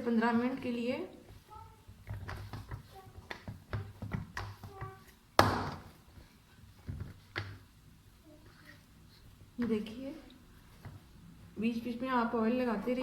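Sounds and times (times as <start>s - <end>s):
dough kneaded by hand: 0.0s - 13.0s.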